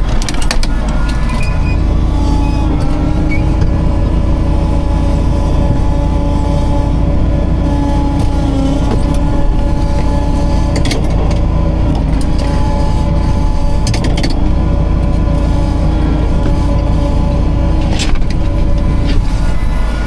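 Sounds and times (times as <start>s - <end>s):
low engine rumble: 0.0s - 20.0s
steady machine whine: 0.0s - 20.0s.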